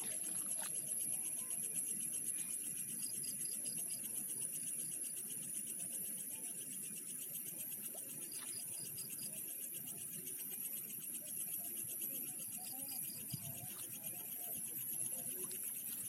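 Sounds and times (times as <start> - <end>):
crickets trilling: 0.0 - 16.0
insect chirps: 0.0 - 16.0.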